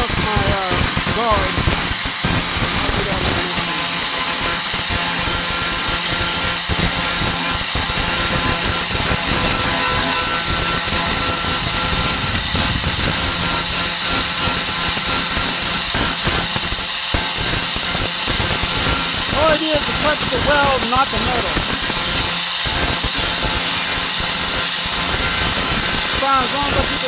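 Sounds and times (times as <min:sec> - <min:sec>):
angle grinder grinding metal: 0:00.0 - 0:27.0.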